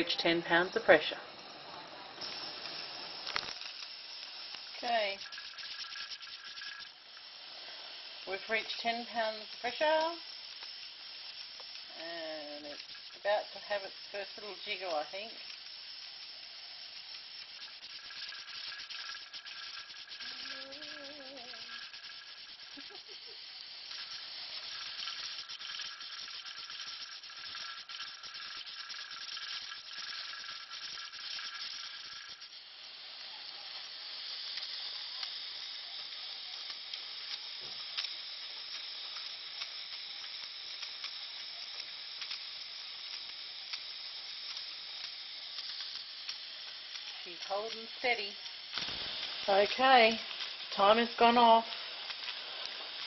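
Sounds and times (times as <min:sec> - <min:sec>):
pressure canner hissing steam: 0:00.0 - 0:53.0.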